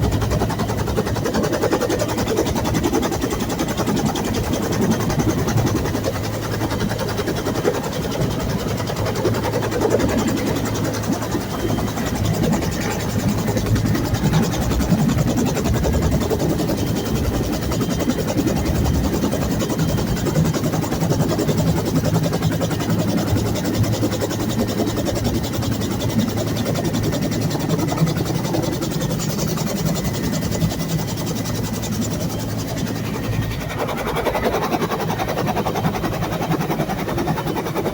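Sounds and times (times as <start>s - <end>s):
helicopter engine and rotor: 0.0s - 37.9s.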